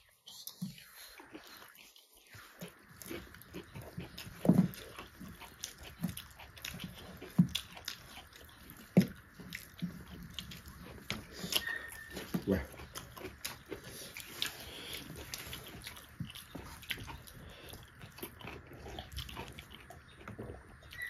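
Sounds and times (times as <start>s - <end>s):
chewing and mouth smacks: 0.0s - 21.0s
gloved hands squishing food: 0.0s - 21.0s.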